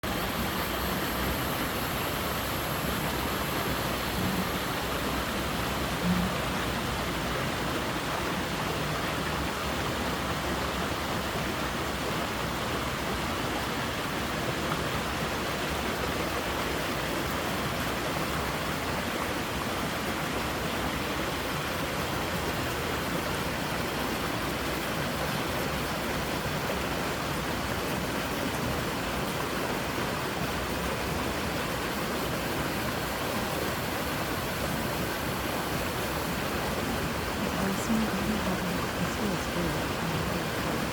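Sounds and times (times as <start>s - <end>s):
water rushing through creek: 0.0s - 40.9s.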